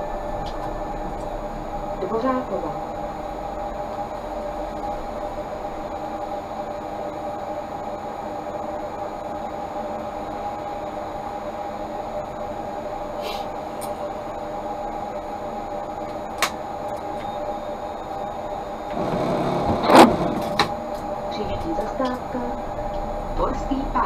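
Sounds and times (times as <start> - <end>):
rushing noise: 0.0 - 16.0, 17.6 - 24.0
tram electrical hum: 0.0 - 24.0.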